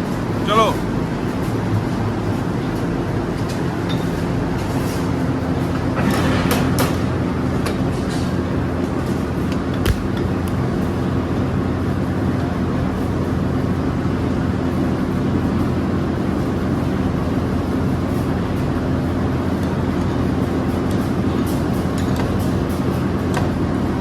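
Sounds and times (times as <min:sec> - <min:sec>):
heavy factory machinery droning: 0:00.0 - 0:24.0.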